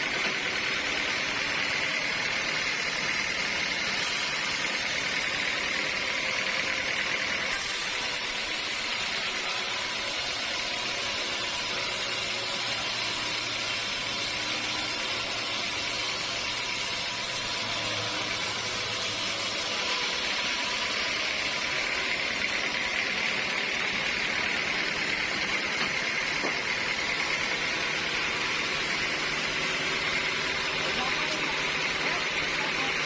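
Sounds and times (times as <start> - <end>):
saw high whine: 0.0 - 33.0
sawmill machine noise: 0.0 - 33.0.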